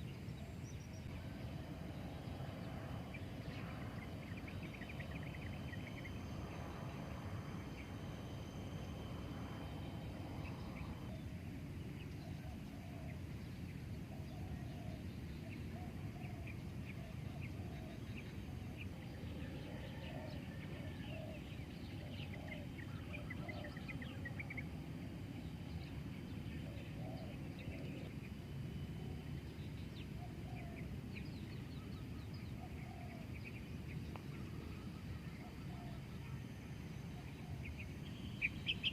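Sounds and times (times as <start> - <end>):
steady low rumble: 0.0 - 38.9.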